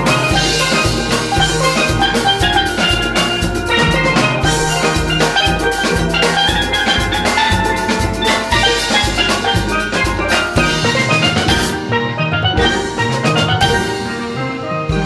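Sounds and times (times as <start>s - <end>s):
steel band playing: 0.0s - 15.0s.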